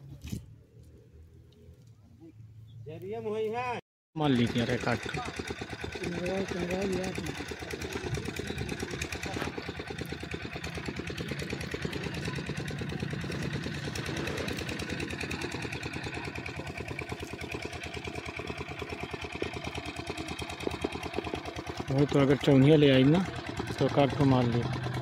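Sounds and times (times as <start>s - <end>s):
small engine running: 4.2s - 25.0s.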